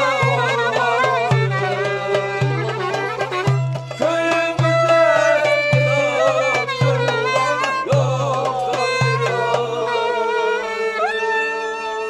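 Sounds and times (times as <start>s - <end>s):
low drum beat: 0.0s - 10.0s
ornamented folk melody: 0.0s - 12.0s.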